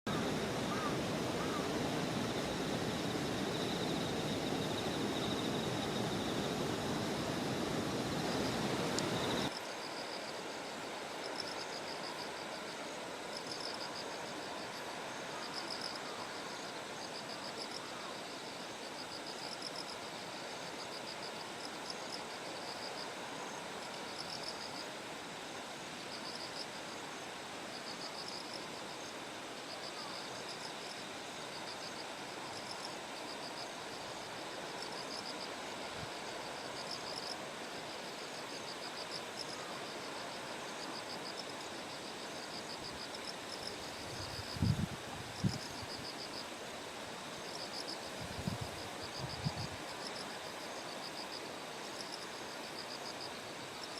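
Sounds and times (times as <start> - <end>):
crickets trilling: 0.1 - 53.9
faint hiss: 0.1 - 53.9.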